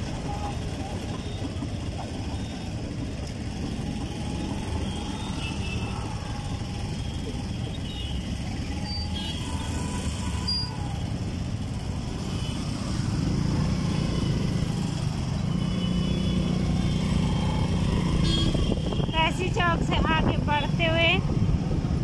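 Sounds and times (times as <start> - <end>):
motorbike engines in traffic: 0.0 - 22.0.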